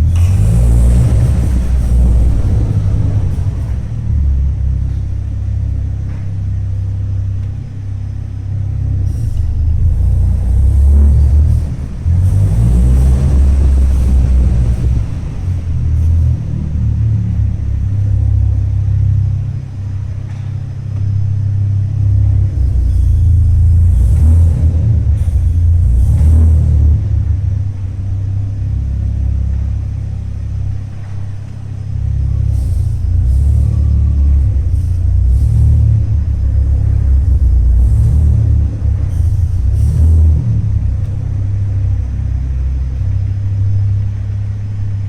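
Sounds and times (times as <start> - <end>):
car engine low uneven rumble: 0.0 - 45.0.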